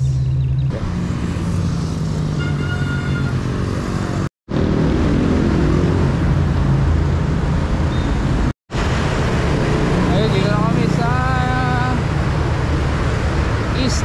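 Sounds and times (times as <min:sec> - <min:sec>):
road noise rushing: 0:00.0 - 0:14.0.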